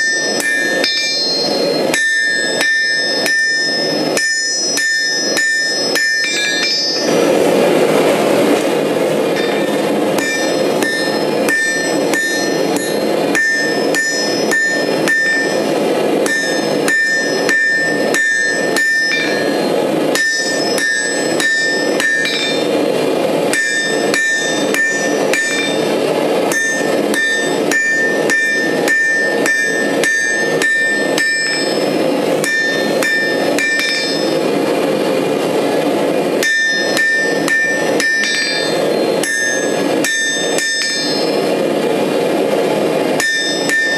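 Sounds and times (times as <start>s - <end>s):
hammer striking metal on anvil: 0.0s - 7.2s, 9.3s - 34.8s, 36.4s - 41.6s, 43.2s - 43.9s
steady rushing noise: 0.0s - 43.9s.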